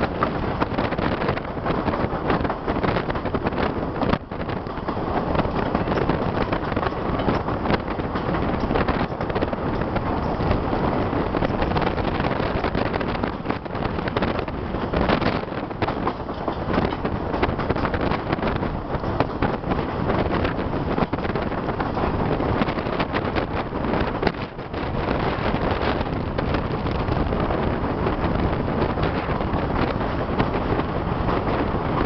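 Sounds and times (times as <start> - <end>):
train car rattling: 0.0 - 32.0
train wheels rumbling on rail: 0.0 - 32.0
wind buffeting microphone: 0.0 - 32.0.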